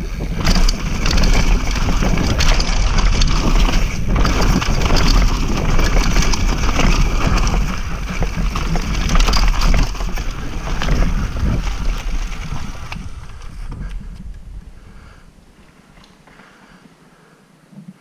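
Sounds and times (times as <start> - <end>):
bike chain and frame rattling: 0.0 - 16.0
bike tyres on gravel: 0.0 - 16.8.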